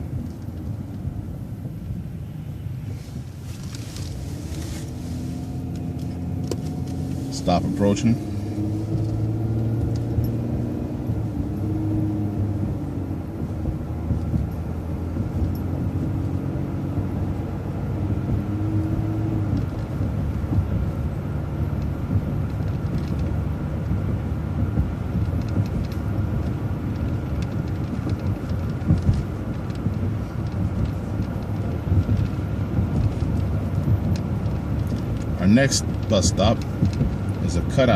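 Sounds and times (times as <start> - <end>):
bus engine and road rumble: 0.0 - 37.9.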